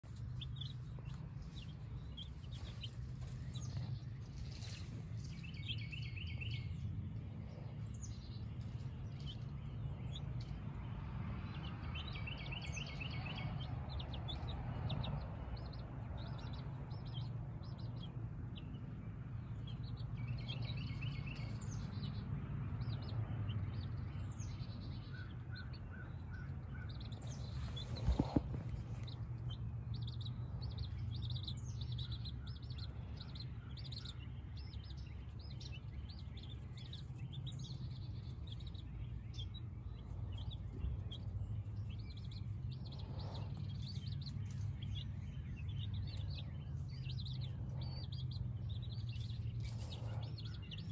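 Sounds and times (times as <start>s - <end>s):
birds chirping: 0.0s - 50.9s
low background rumble: 0.0s - 50.9s.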